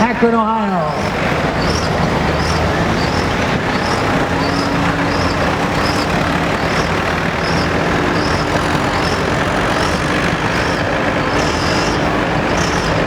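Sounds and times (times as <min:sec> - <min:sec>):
truck engine roaring: 0:00.0 - 0:13.0.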